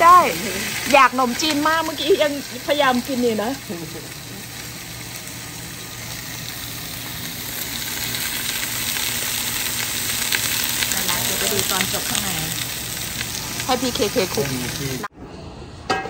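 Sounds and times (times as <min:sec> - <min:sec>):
meat sizzling in a pot: 0:00.0 - 0:15.1.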